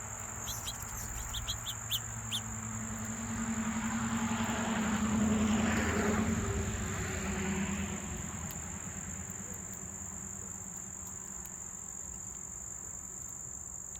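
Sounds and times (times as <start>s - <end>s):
crickets trilling: 0.0s - 13.9s.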